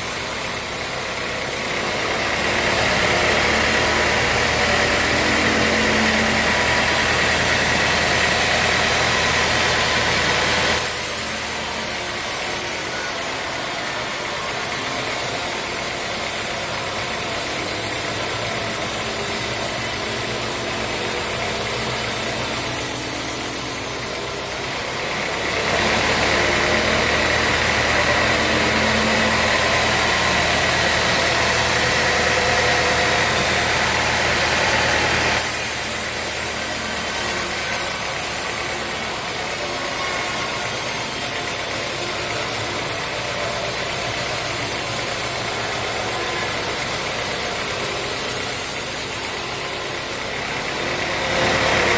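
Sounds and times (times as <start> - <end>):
band sawmill humming: 0.0 - 51.9.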